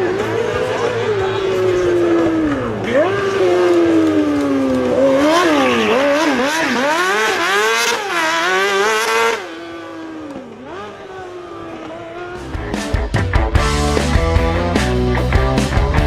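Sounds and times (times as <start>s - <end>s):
high-revving motorcycle engine: 0.0s - 16.0s.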